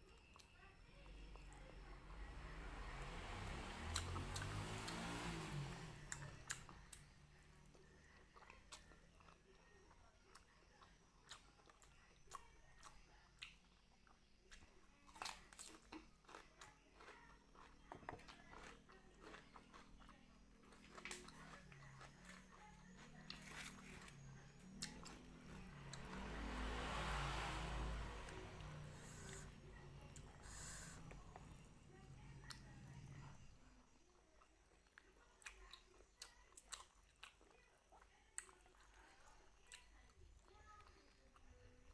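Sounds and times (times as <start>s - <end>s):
chewing with mouth clicks: 3.2s - 33.4s, 34.1s - 41.9s.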